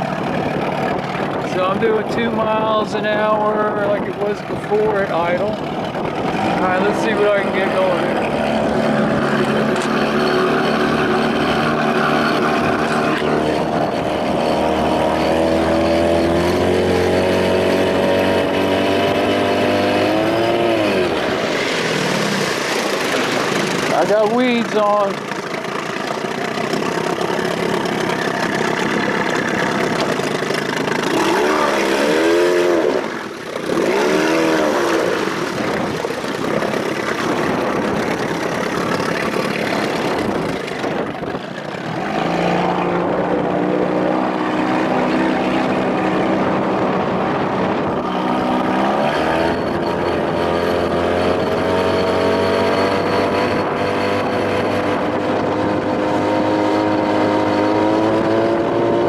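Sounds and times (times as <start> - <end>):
outboard motor revving: 0.0 - 59.0.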